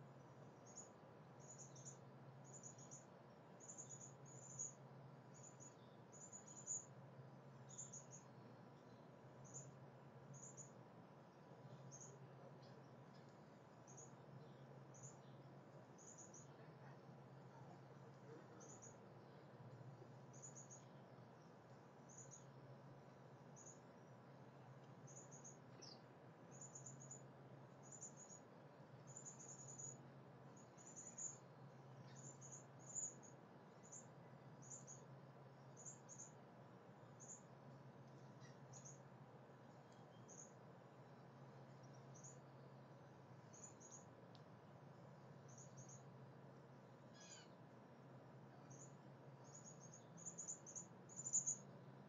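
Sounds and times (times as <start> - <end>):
faint high-pitched chirps: 0.0 - 22.7, 23.5 - 30.0, 30.6 - 36.4, 37.0 - 37.5, 38.1 - 39.1, 39.7 - 44.3, 45.3 - 46.2, 47.0 - 47.6, 48.5 - 51.8.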